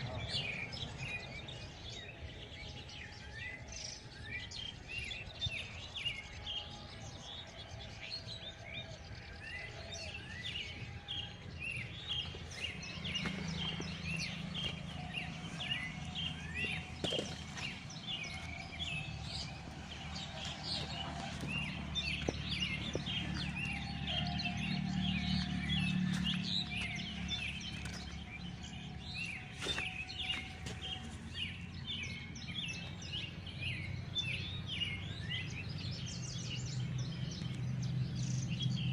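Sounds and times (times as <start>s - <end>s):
birds chirping in chorus: 0.0s - 38.9s.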